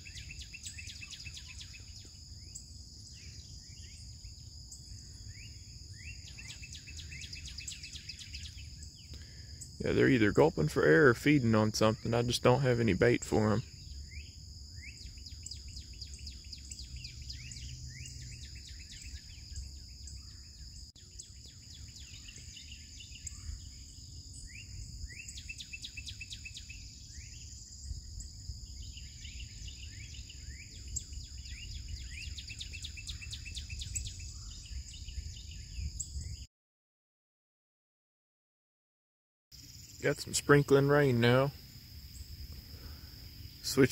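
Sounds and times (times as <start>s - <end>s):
birds singing and trilling: 0.0s - 36.5s, 39.6s - 43.9s.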